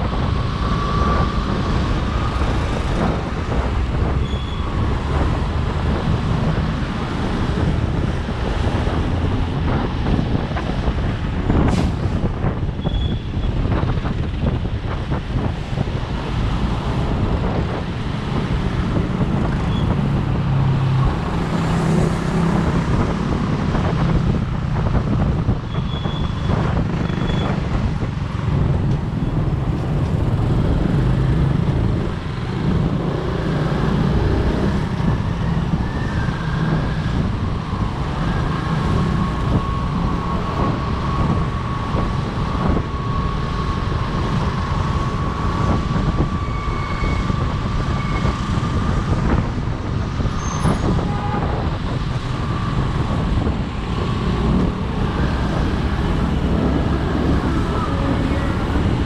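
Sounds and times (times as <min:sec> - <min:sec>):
traffic noise: 0:00.0 - 0:59.0.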